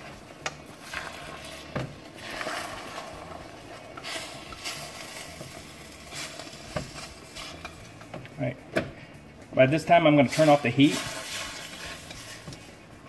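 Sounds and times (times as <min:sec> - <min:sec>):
eggs hissing in frying pan: 0:00.0 - 0:08.0, 0:10.2 - 0:13.0.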